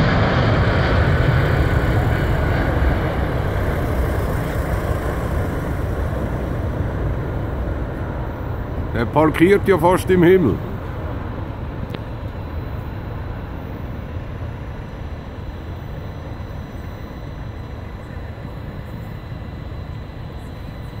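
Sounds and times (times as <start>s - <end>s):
jet engines deep rumble: 0.0s - 21.0s.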